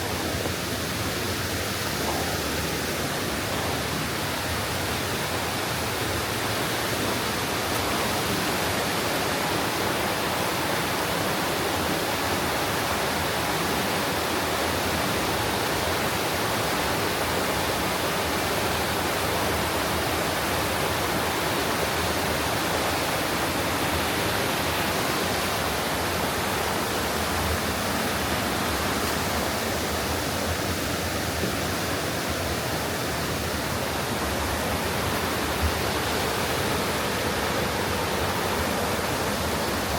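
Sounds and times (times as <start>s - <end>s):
rushing stream water: 0.0s - 39.9s.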